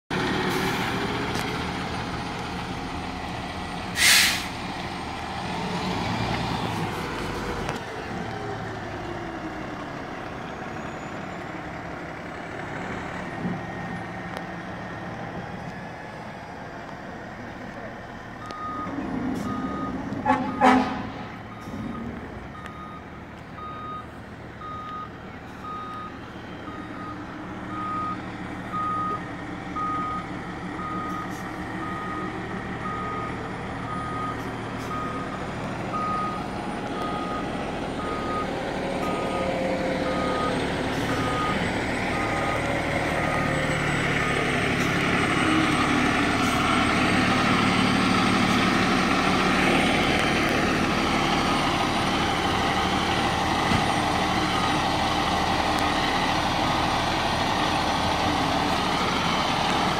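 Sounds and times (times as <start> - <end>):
truck engine running: 0.1 - 59.9.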